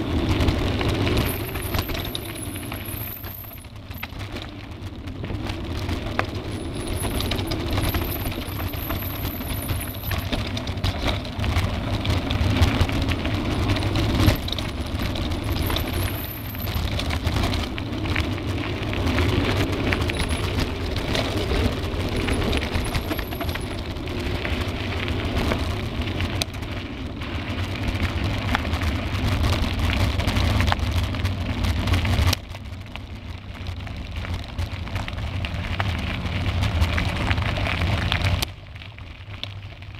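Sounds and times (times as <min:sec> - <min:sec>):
bike rattling over rough trail: 0:00.0 - 0:39.9
wind rumble on microphone: 0:00.0 - 0:39.9.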